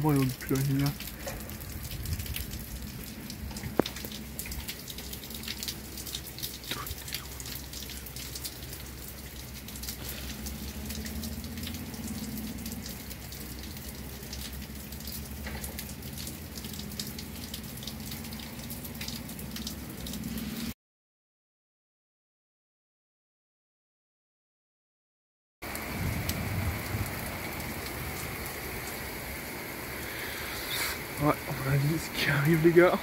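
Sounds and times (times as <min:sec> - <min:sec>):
raindrops tapping: 0:00.0 - 0:20.8, 0:25.6 - 0:33.0
water dripping: 0:00.0 - 0:20.8, 0:25.6 - 0:33.0.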